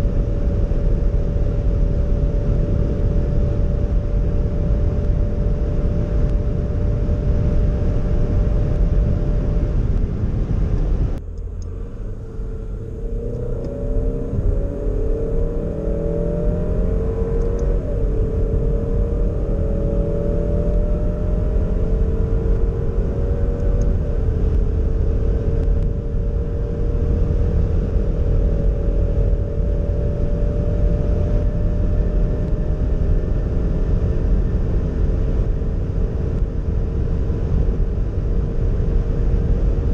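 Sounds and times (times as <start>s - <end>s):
car engine at full throttle: 0.0s - 39.9s
road noise: 0.0s - 39.9s.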